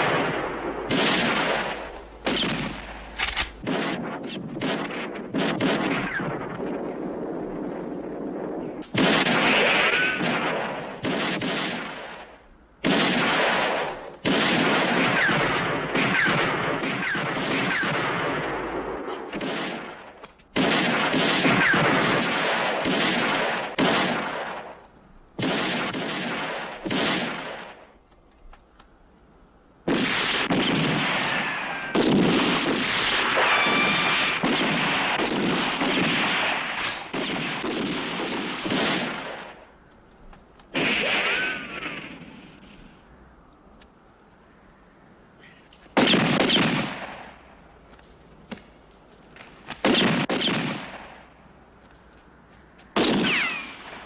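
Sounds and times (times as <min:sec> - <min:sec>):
echoing gunshots: 0:00.0 - 0:28.0, 0:29.8 - 0:39.9, 0:40.6 - 0:43.2, 0:45.1 - 0:48.9, 0:49.6 - 0:51.8, 0:52.9 - 0:54.0.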